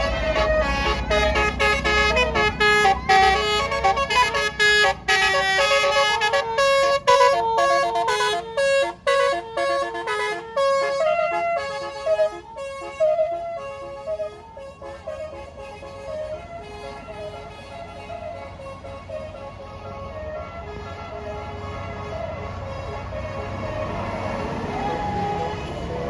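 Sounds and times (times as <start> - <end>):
low engine rumble: 0.0 - 26.0
musical air horn playing a tune: 0.0 - 26.0.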